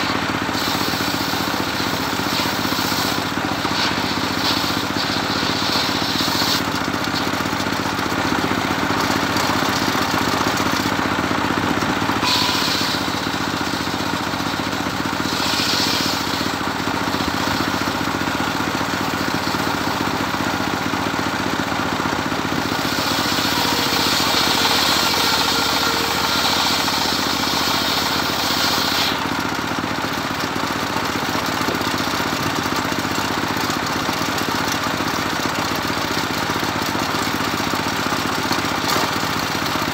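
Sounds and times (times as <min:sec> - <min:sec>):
saw blade cutting wood: 0:00.0 - 0:30.4, 0:36.8 - 0:39.9
engine-driven circular saw running: 0:00.0 - 0:39.9.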